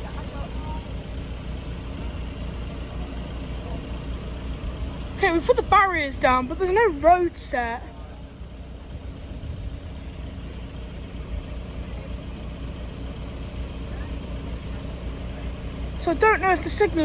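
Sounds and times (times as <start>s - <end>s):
engines idling rumble: 0.0s - 17.0s
faint steady tones: 0.0s - 17.0s.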